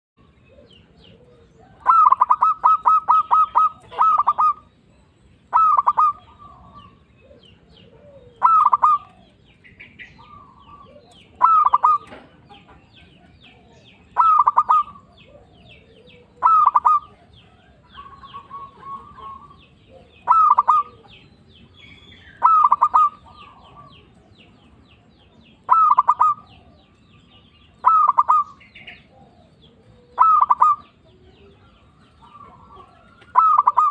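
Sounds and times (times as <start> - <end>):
dove cooing: 0.2 - 33.9
small birds chirping: 0.2 - 33.9.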